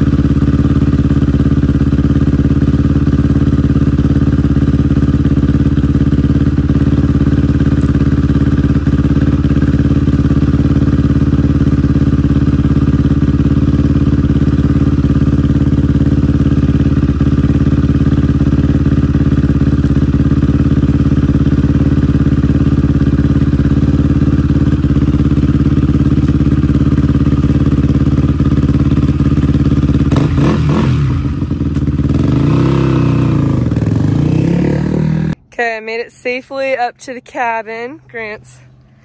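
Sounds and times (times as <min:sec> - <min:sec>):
dirt bike engine: 0:00.0 - 0:39.0.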